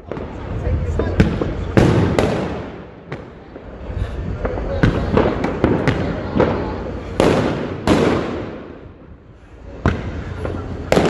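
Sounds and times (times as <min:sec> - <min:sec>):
fireworks exploding with echo: 0:00.0 - 0:11.0.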